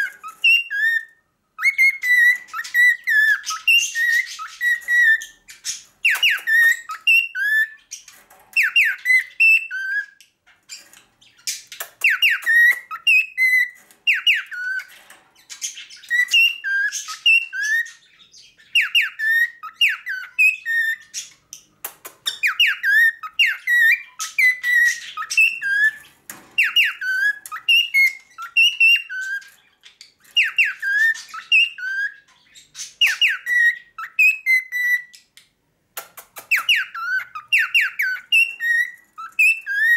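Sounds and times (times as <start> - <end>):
cockatiel whistling song: 0.0 - 8.0, 8.6 - 10.2, 11.3 - 14.9, 15.6 - 21.4, 22.0 - 35.3, 36.4 - 39.9.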